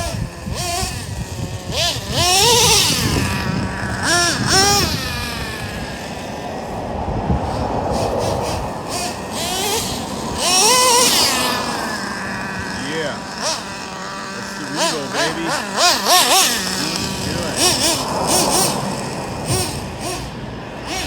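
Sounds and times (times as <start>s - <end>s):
model truck engine revving: 0.0s - 21.0s.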